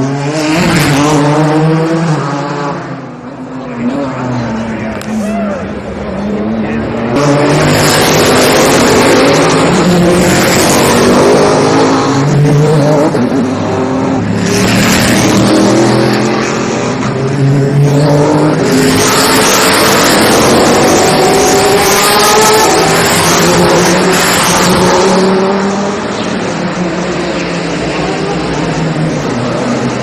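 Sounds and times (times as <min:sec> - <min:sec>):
racing cars passing at speed: 0:00.0 - 0:30.0.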